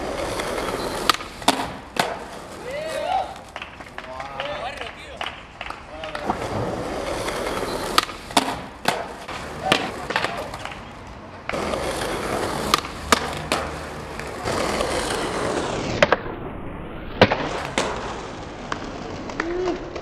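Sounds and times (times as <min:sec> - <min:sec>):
skateboard clacking: 0:00.0 - 0:16.2, 0:17.2 - 0:20.0
skateboard wheels rolling on concrete: 0:00.0 - 0:20.0.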